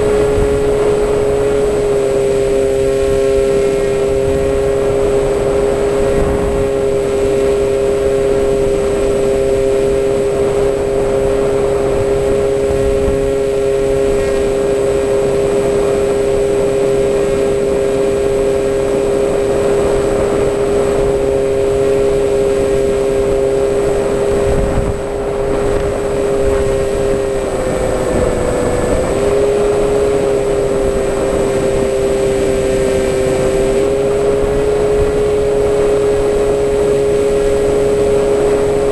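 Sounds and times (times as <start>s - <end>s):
electric motor and propeller whine: 0.0s - 38.9s
wind rumble on microphone: 0.0s - 38.9s.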